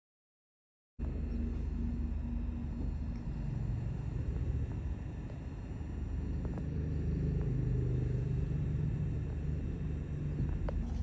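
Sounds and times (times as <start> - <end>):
vehicle engine low rumble: 1.0 - 11.0.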